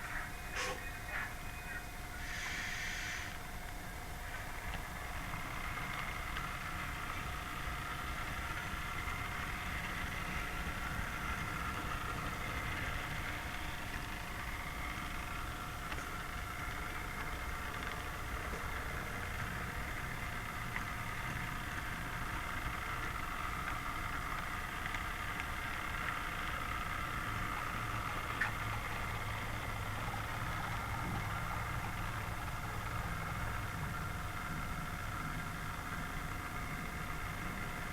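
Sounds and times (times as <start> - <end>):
model train motor whine: 2.0 - 37.9
wheel rumble on rails: 4.2 - 37.9.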